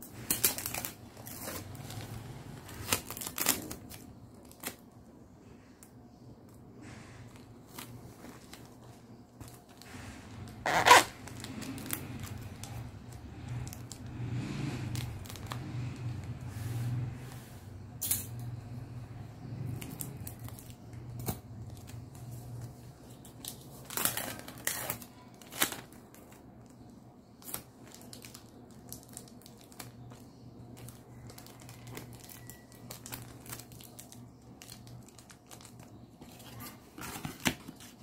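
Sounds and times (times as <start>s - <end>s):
plastic and cardboard rustling: 0.0s - 4.9s, 6.3s - 17.1s, 19.8s - 38.0s
low steady hum: 0.0s - 38.0s.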